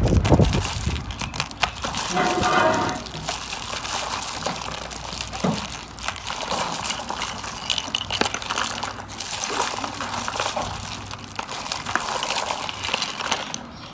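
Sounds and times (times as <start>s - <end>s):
foil wrappers crinkling: 0.0s - 13.9s.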